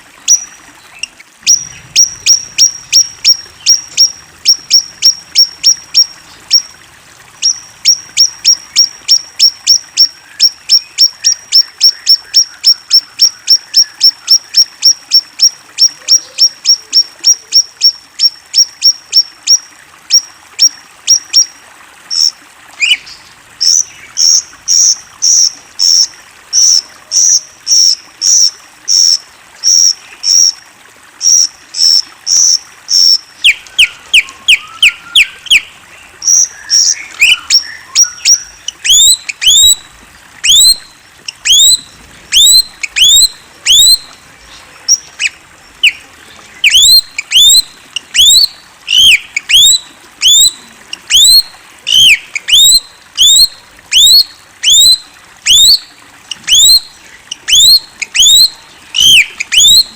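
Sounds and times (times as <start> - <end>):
songbird singing: 0.2 - 21.5, 22.1 - 30.5, 31.2 - 59.9.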